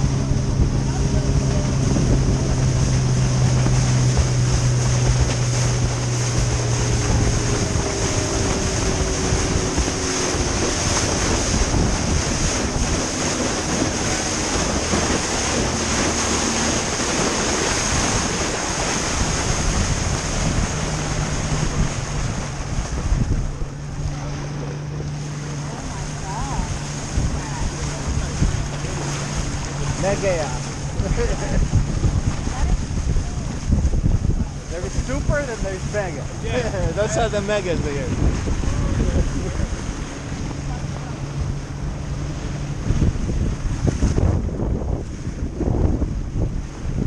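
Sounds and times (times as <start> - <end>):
boat engine droning: 0.0 - 47.0
water rushing past hull: 0.0 - 47.0
wind buffeting microphone: 0.0 - 47.0.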